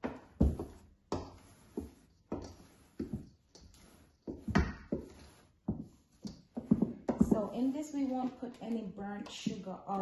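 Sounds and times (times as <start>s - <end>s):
wooden spoon beating batter in bowl: 0.0s - 10.0s.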